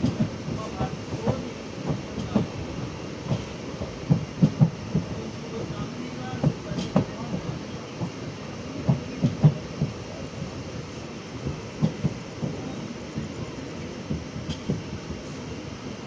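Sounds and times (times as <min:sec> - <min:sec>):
wheels knocking on rails: 0:00.0 - 0:05.3, 0:06.2 - 0:10.6, 0:11.4 - 0:15.2
train rumbling on track: 0:00.0 - 0:16.0.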